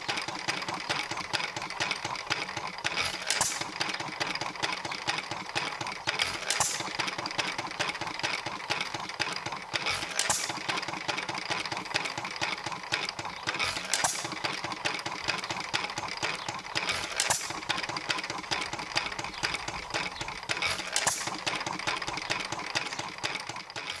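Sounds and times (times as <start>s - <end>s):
engine mechanical clatter: 0.0s - 24.0s.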